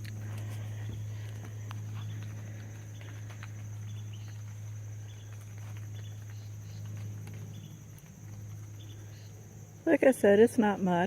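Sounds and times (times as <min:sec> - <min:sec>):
crickets chirping: 0:00.0 - 0:11.0
insects droning: 0:00.0 - 0:11.0
steady low hum: 0:00.0 - 0:11.0.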